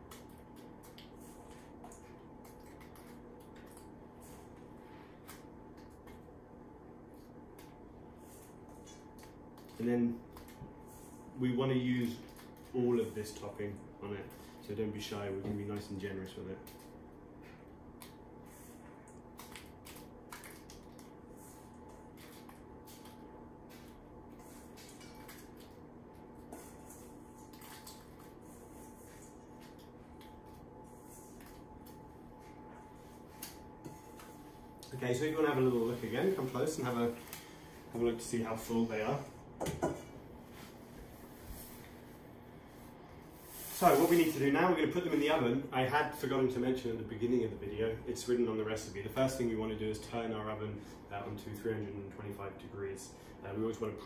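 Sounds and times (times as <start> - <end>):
room hum: 0.0 - 54.0.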